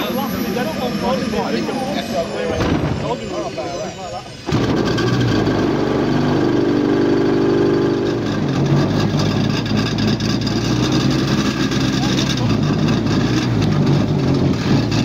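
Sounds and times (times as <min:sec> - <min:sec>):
model aircraft engine running: 0:00.0 - 0:15.0.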